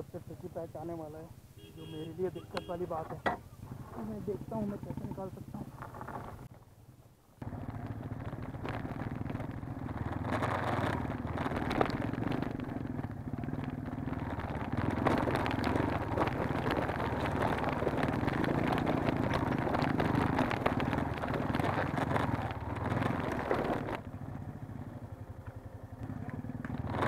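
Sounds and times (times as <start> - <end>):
motorcycle engine under load: 2.6 - 27.0.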